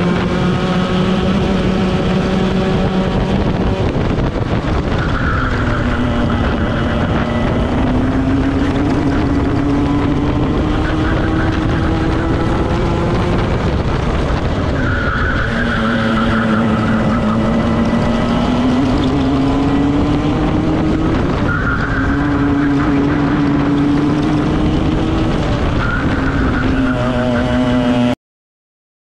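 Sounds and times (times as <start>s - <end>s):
racing kart engine revving: 0.0s - 28.2s.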